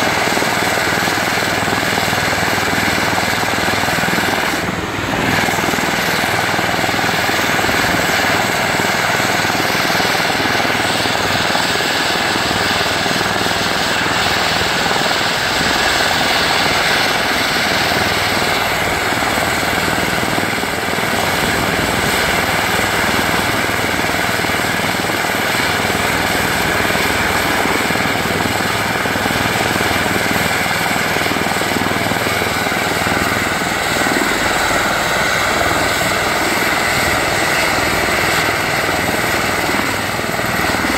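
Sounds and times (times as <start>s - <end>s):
helicopter engines and rotors: 0.0s - 40.9s.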